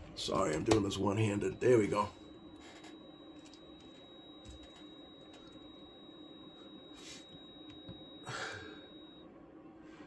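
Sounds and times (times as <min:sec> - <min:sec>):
high-pitched electronic whine and hum: 0:00.0 - 0:10.0.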